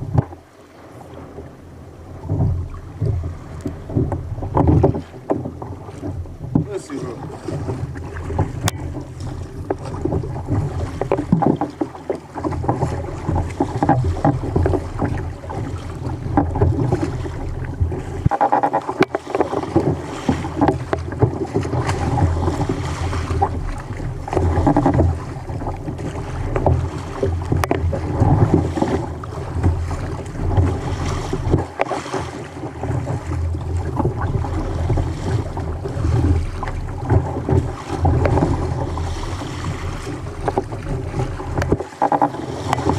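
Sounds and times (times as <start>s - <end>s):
water slapping against kayak hull: 0.0s - 42.9s.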